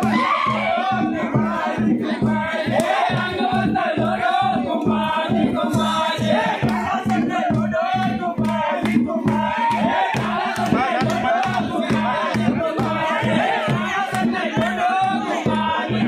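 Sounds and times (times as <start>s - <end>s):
loud music with driving beat: 0.0s - 16.0s.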